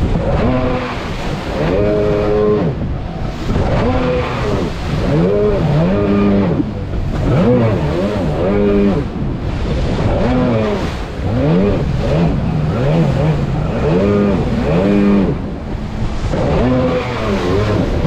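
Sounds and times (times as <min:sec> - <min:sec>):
jet ski engine revving: 0:00.0 - 0:18.0
wind and water rushing: 0:00.0 - 0:18.0.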